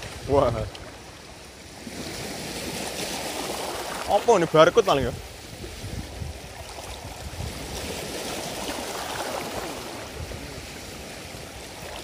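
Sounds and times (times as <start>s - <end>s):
waves lapping against rocks: 0.0s - 12.0s.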